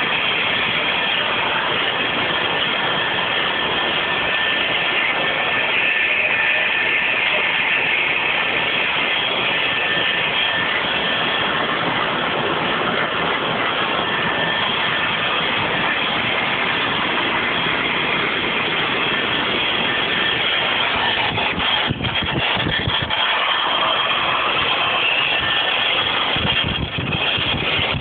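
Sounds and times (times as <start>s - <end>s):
factory machine running: 0.0s - 28.0s
faint high whine: 0.0s - 28.0s.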